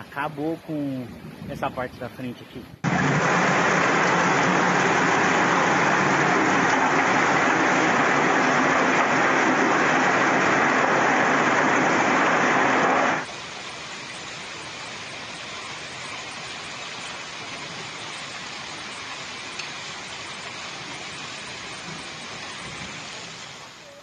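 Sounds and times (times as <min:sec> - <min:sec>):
hail and rain falling: 0:02.8 - 0:24.0.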